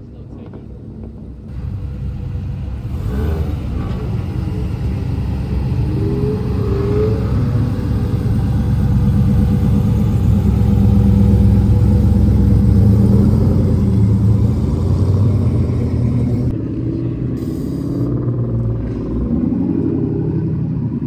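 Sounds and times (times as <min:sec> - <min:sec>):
car engine rumbling: 0:01.5 - 0:21.0.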